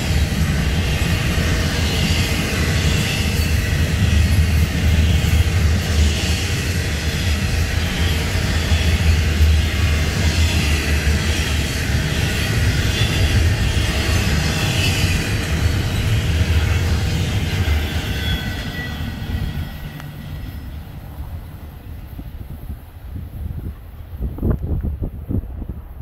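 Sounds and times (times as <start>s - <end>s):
freight cars rumbling on rails: 0.0s - 26.0s.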